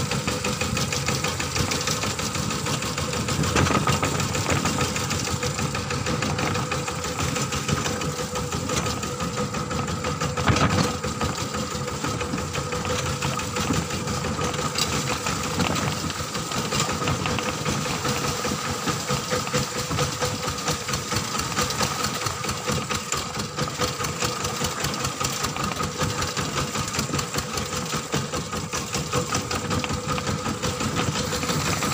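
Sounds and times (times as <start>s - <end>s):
diesel engine knocking: 0.0s - 31.9s
loud engine knock: 0.1s - 31.9s.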